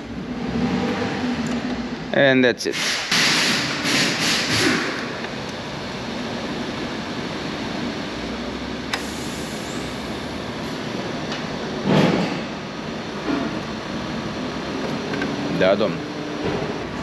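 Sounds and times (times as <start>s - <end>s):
workshop hum: 0.0s - 17.0s.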